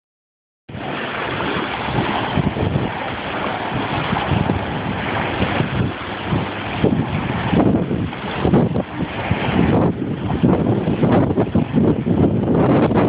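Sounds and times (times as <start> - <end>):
small waves washing on shore: 0.7 - 13.0
wind gusting against microphone: 0.7 - 13.0.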